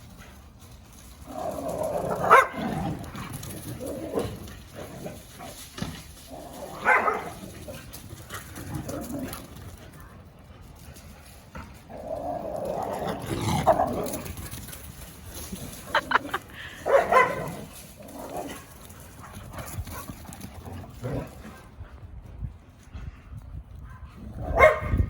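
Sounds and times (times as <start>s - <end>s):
dogs playing and barking: 0.0s - 25.0s.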